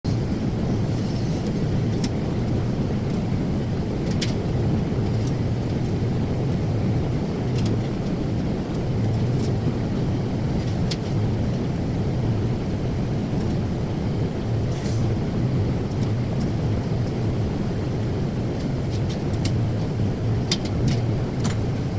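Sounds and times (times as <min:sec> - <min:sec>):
welding arc hum and hiss: 0:00.1 - 0:21.9.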